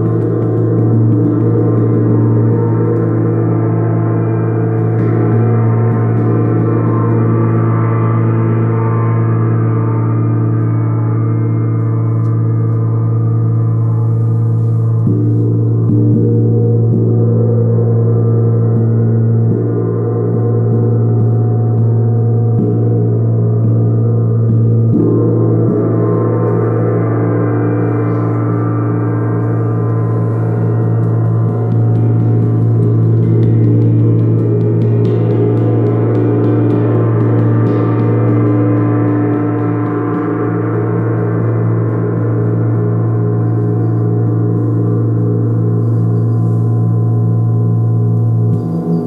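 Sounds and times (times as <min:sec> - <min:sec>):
gong struck with felt mallets: 0:00.0 - 0:49.0.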